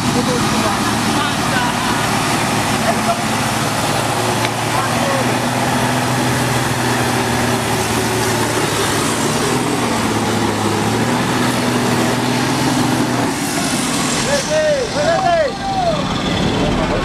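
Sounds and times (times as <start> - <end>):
truck diesel engine labouring: 0.0 - 17.0.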